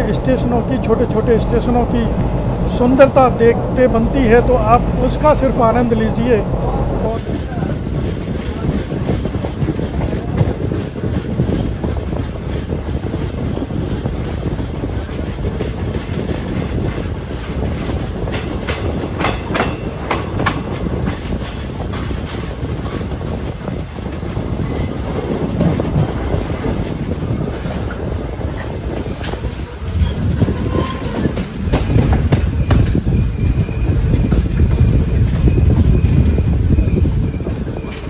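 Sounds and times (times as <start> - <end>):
train rumbling at speed: 0.0 - 38.0.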